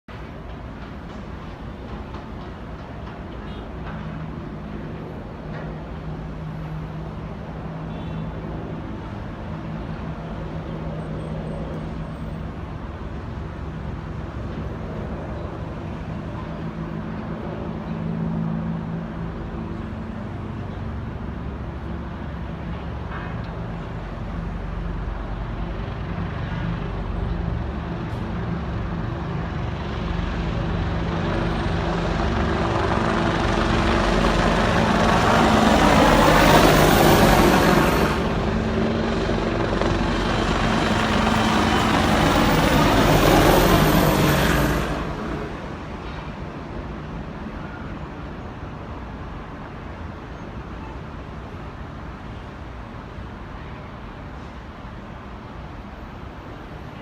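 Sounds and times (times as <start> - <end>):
helicopters droning: 0.1 - 54.2.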